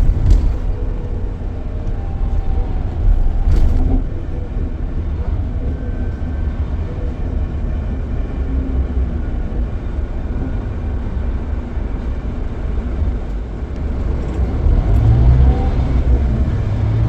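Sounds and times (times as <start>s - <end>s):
coach engine and road rumble: 0.0s - 17.0s
faint whining tones: 0.0s - 17.0s.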